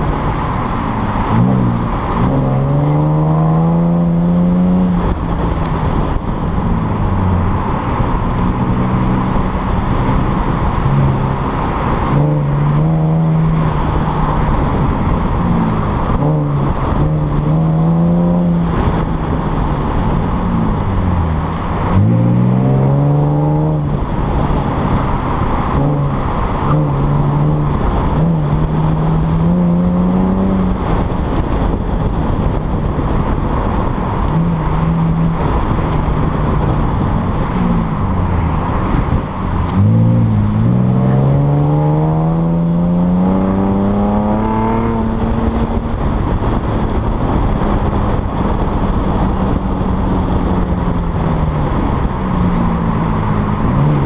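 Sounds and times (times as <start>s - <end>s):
car engine accelerating: 0.0s - 54.0s
wind rushing on microphone: 0.0s - 54.0s.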